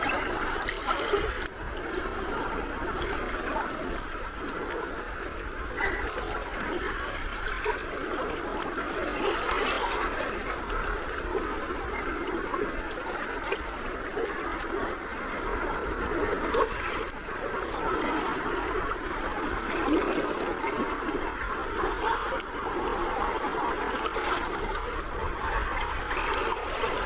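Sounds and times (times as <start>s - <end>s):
sea waves lapping at shore: 0.0s - 27.0s.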